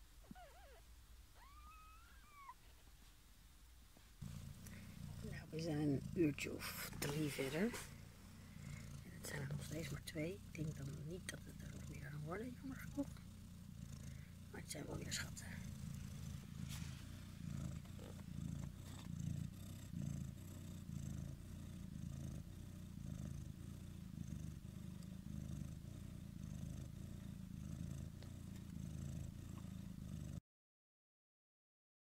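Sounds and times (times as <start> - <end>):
cat purring: 0.0 - 3.1, 4.0 - 30.4.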